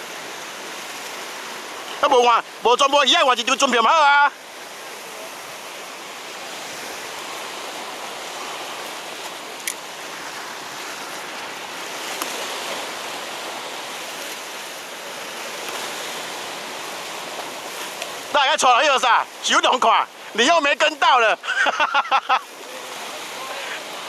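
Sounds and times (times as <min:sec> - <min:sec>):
sea surf washing against shore: 0:00.0 - 0:24.0.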